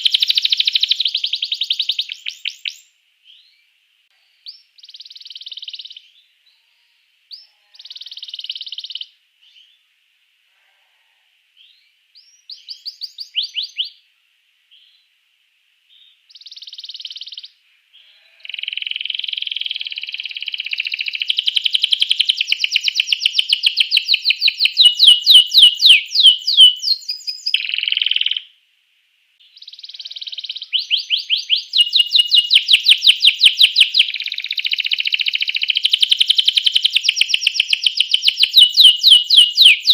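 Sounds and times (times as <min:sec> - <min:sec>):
canary singing: 0:00.0 - 0:03.6, 0:04.2 - 0:09.8, 0:11.6 - 0:14.0, 0:15.9 - 0:28.5, 0:29.4 - 0:39.9.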